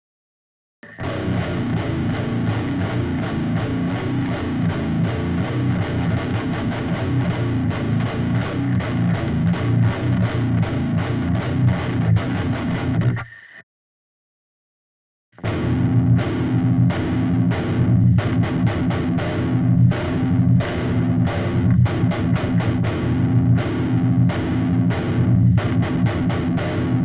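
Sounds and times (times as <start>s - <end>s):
distorted electric guitar metal riff: 0.8s - 13.6s, 15.4s - 27.0s.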